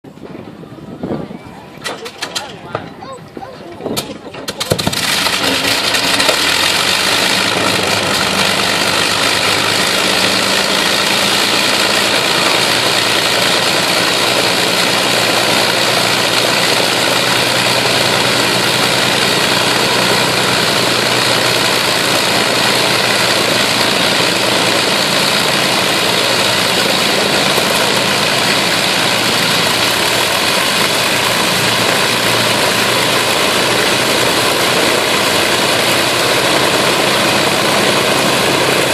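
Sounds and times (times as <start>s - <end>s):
propeller aircraft engines droning: 0.1s - 38.9s.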